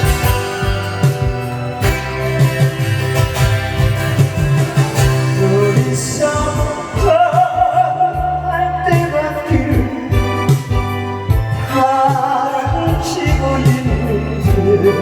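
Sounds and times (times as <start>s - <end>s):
song with drum beat and bass: 0.0s - 15.0s.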